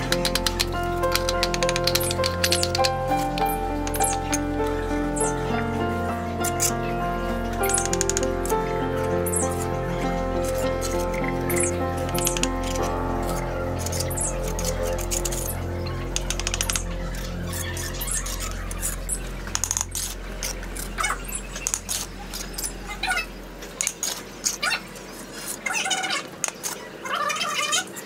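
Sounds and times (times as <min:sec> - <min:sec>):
background music: 0:00.0 - 0:24.8.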